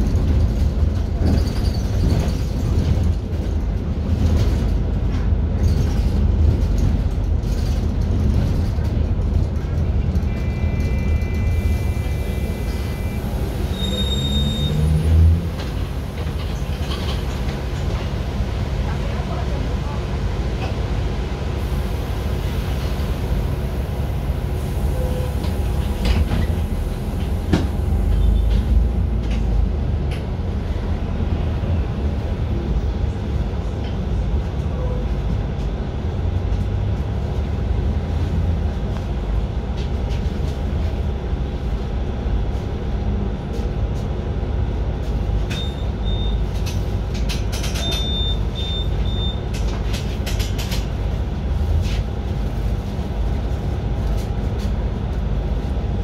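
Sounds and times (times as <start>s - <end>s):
bus engine rumbling: 0.0s - 56.0s.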